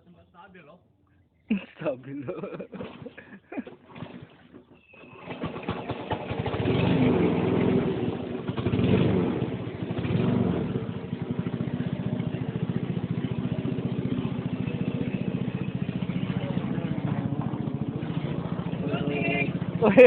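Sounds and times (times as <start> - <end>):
small boat engine starting and running: 1.5 - 20.0.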